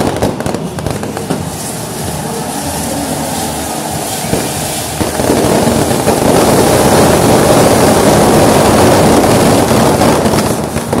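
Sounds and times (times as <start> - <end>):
fireworks crackling: 0.0 - 11.0
sharp firework cracks: 0.0 - 11.0.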